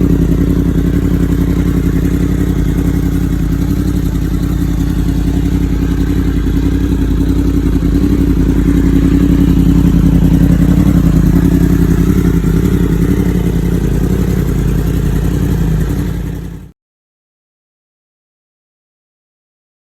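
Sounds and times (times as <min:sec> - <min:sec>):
motorcycle engine idling: 0:00.0 - 0:16.7.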